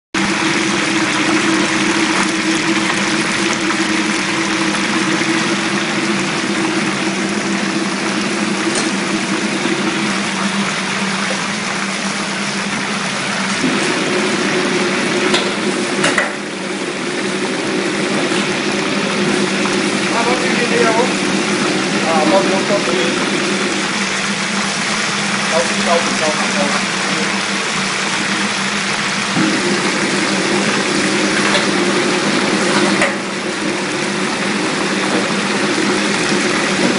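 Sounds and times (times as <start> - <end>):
crabs sizzling in hot oil: 0.2 - 36.9
steady low hum: 0.2 - 36.9.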